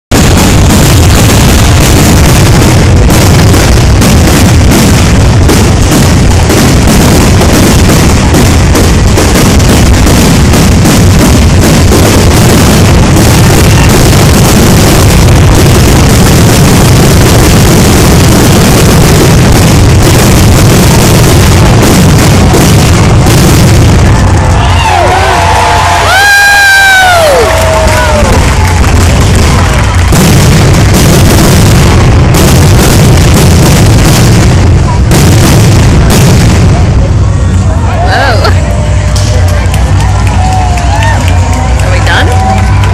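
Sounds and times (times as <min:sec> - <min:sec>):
deep rumble: 0:00.0 - 0:42.9.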